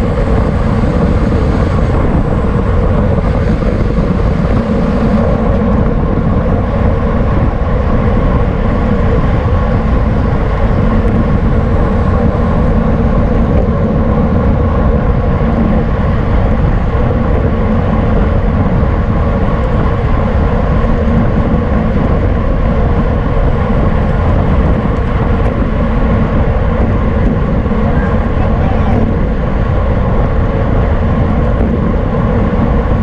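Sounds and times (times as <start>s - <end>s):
road noise: 0.0s - 33.0s
wind buffeting microphone: 0.0s - 33.0s.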